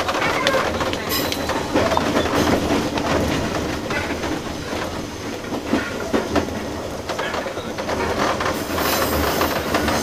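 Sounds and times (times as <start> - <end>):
train rumble: 0.0 - 10.0
wheels clicking over rail joints: 0.0 - 10.0.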